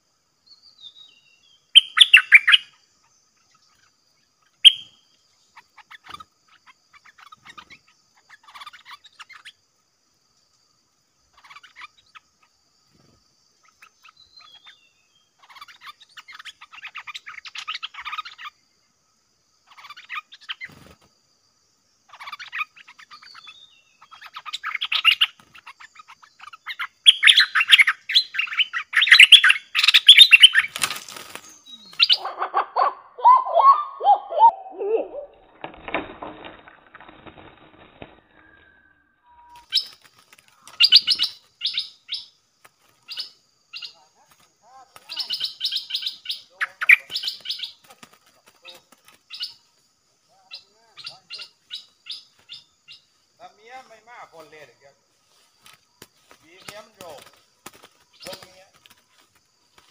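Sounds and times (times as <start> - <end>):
birds chattering calls: 0.0 - 21.2, 21.8 - 35.7, 38.0 - 59.9.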